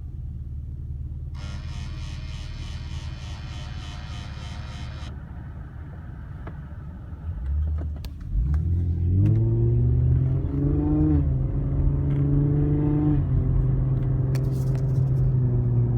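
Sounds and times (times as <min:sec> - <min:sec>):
car engine rumbling and revving: 0:00.0 - 0:15.9.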